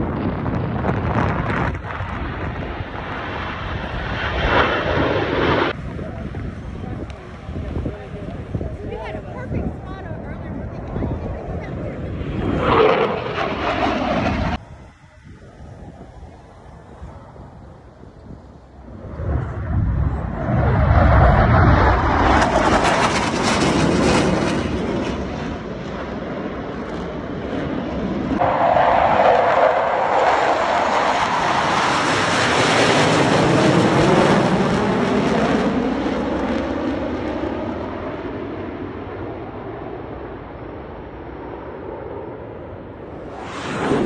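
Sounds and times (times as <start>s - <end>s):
jet noise overhead: 0.0s - 44.0s.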